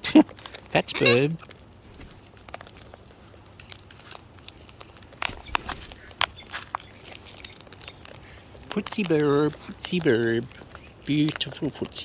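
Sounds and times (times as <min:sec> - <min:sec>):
beaks cracking seed: 0:00.0 - 0:12.0.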